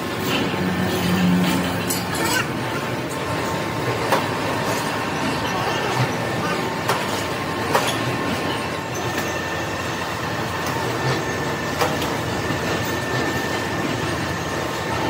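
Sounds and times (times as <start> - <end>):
workshop machinery din: 0.0 - 15.0.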